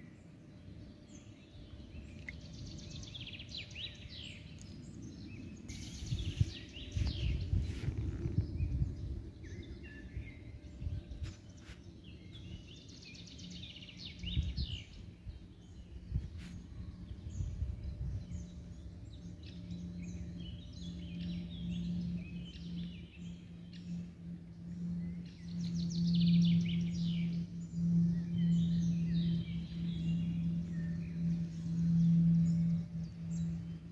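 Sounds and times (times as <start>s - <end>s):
songbirds chirping and singing: 0.0s - 33.9s
steady low hum: 0.0s - 33.9s.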